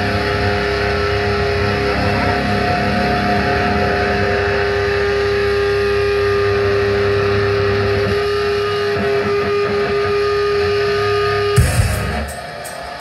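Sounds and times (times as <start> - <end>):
electric guitar note ringing: 0.0 - 13.0.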